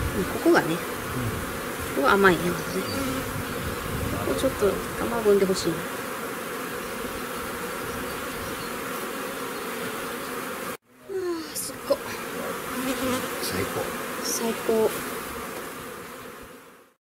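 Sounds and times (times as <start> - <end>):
bee colony humming: 0.0 - 17.0
single bees buzzing past: 0.0 - 17.0.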